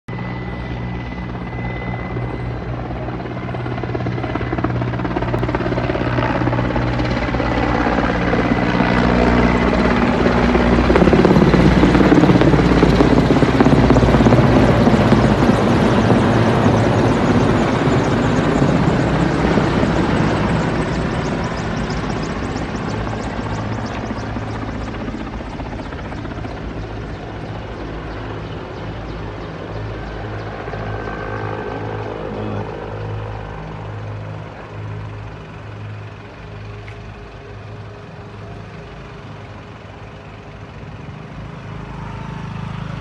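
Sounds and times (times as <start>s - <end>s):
helicopter flying overhead: 0.1s - 43.0s.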